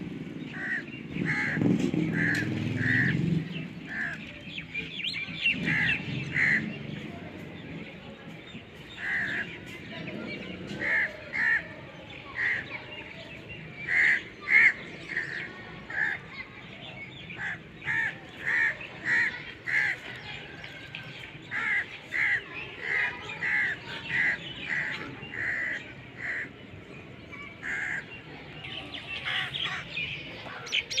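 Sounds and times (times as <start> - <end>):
bird harsh calls: 0.4 - 7.2, 8.8 - 31.0.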